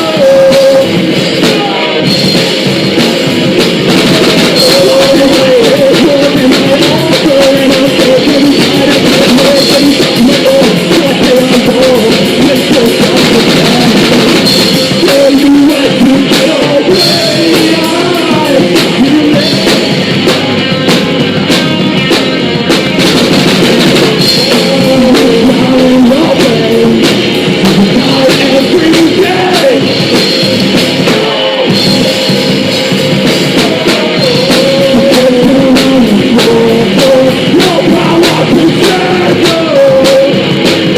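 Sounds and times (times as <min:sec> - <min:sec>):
person singing: 0:00.0 - 0:03.1, 0:04.2 - 0:22.1, 0:24.0 - 0:40.9
bass guitar: 0:00.0 - 0:40.9
drum kit: 0:00.0 - 0:40.9
electric guitars: 0:00.0 - 0:40.9.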